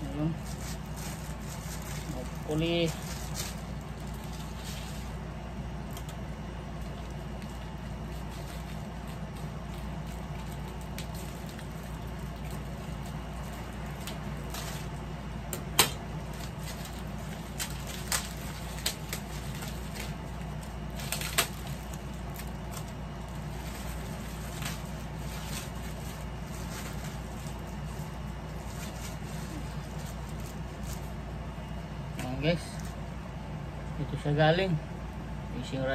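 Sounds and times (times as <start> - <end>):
wrapping crinkling and rustling: 0.0 - 33.2
steady low hum: 0.0 - 35.9.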